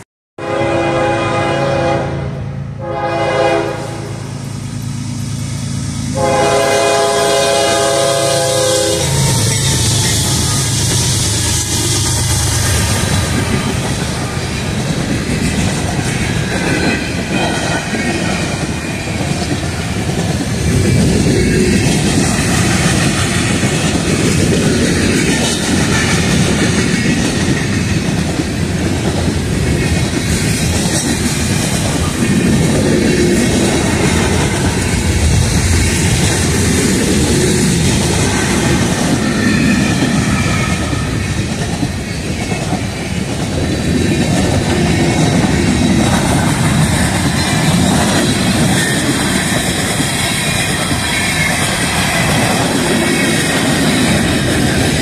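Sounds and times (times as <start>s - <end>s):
freight train rolling past: 0.0s - 55.0s
steel wheels clattering on rails: 8.8s - 55.0s.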